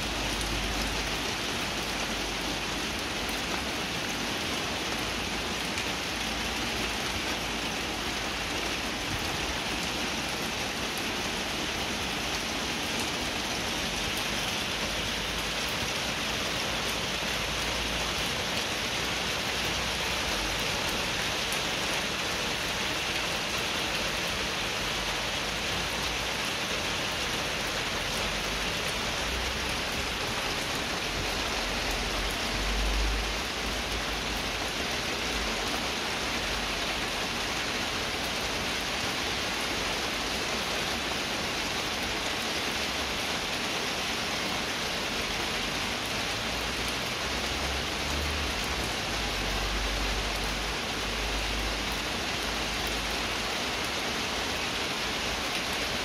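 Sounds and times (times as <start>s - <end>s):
rain splashing on puddle: 0.0s - 56.0s.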